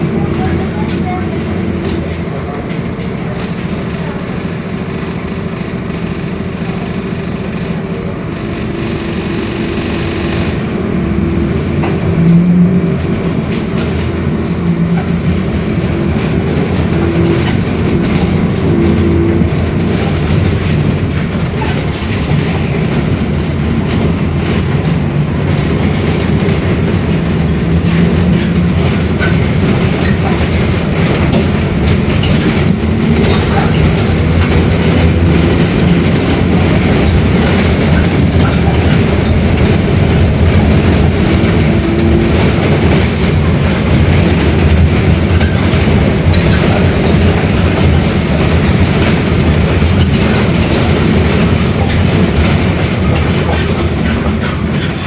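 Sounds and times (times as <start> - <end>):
bus engine running: 0.0 - 55.0
rattles: 8.6 - 55.0.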